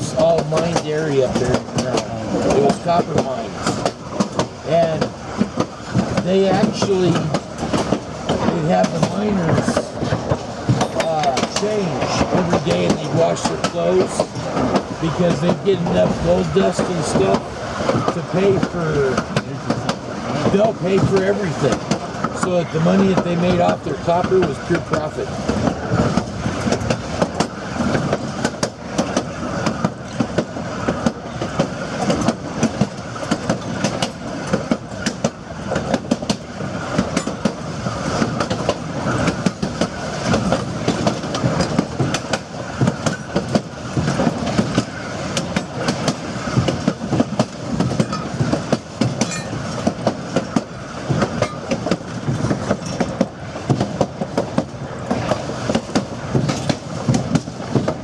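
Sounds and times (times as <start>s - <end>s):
train car rumbling on track: 0.0s - 58.0s
wheels clacking on rails: 0.0s - 58.0s.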